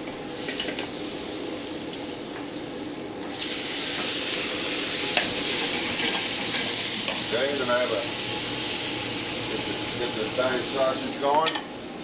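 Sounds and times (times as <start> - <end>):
sausage sizzling in a skillet: 0.4 - 11.3.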